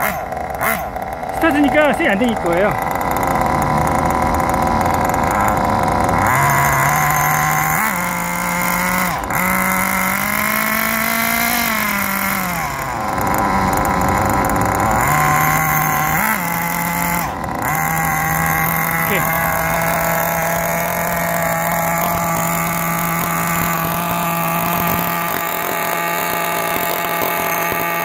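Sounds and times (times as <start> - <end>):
engine throttle blips: 0.0 - 28.0
nitro engine idling: 0.0 - 28.0.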